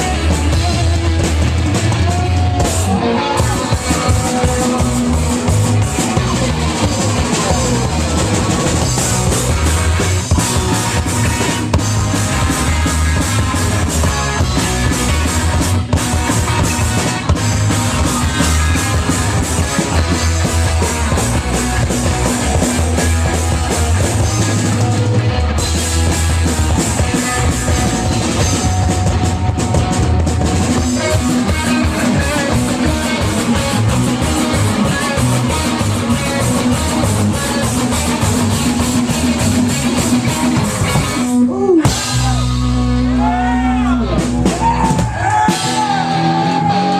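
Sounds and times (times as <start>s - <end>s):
punk rock band playing: 0.0s - 46.9s.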